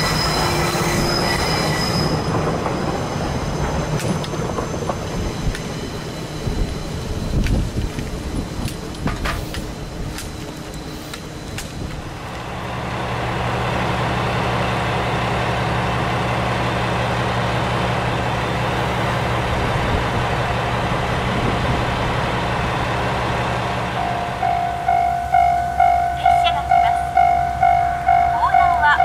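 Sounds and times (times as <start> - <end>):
diesel railcar engine idling: 5.2 - 29.0.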